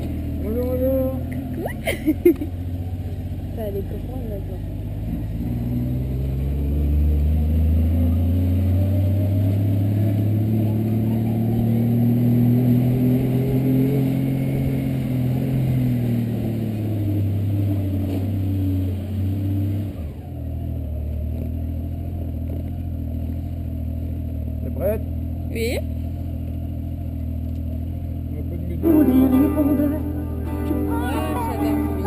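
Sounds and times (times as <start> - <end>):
motorcycle engine running: 0.0 - 6.9, 7.9 - 19.2, 20.1 - 32.0.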